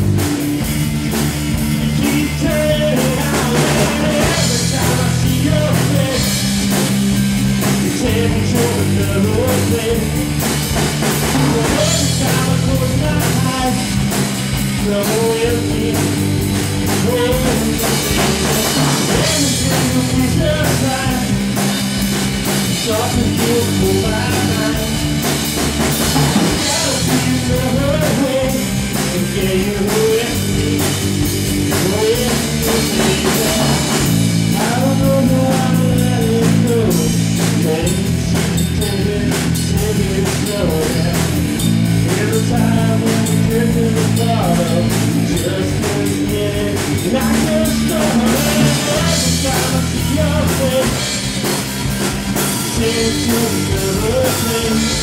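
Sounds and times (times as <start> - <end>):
bass notes: 0.0 - 55.0
drum kit beat: 0.0 - 55.0
guitar: 0.0 - 55.0.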